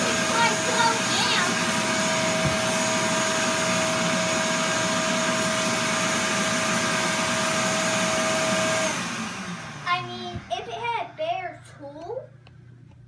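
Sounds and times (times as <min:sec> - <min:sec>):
shop vacuum running: 0:00.0 - 0:11.7.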